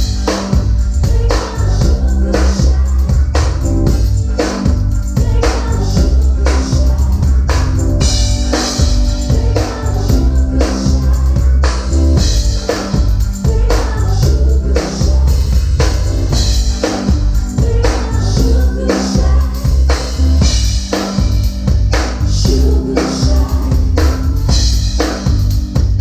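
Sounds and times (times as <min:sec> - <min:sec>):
drum kit beat: 0:00.0 - 0:26.0
heavy bass line: 0:00.0 - 0:26.0
live band playing: 0:00.0 - 0:26.0.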